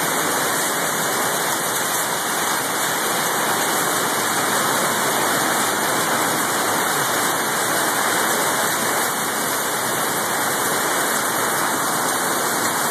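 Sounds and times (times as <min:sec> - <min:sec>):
steady rain falling: 0:00.0 - 0:12.9.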